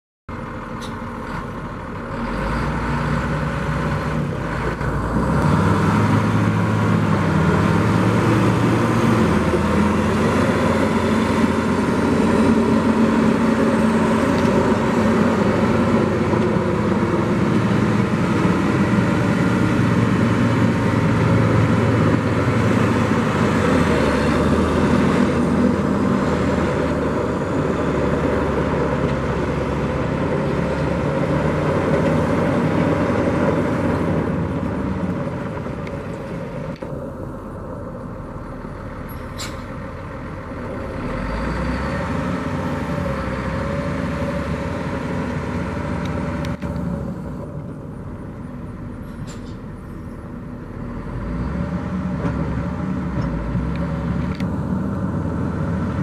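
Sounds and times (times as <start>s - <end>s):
diesel engine running: 0.3s - 56.0s.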